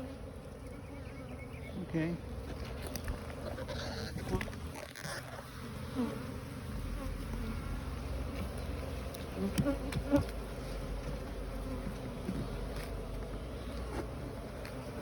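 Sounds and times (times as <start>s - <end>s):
bees buzzing: 0.0s - 15.0s
bees flying past microphone: 2.2s - 15.0s.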